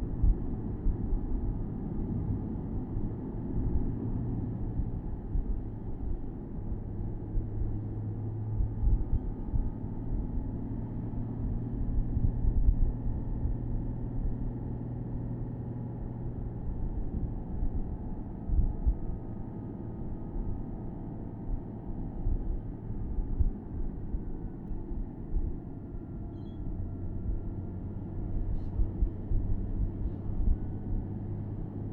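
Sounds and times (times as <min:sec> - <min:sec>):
road rumble: 0:00.0 - 0:31.9.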